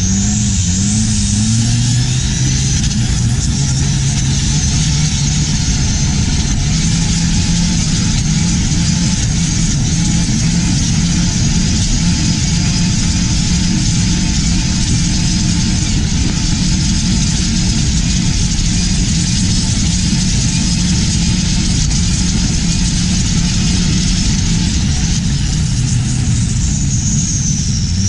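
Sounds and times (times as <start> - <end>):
boat diesel engine running: 0.0 - 28.0.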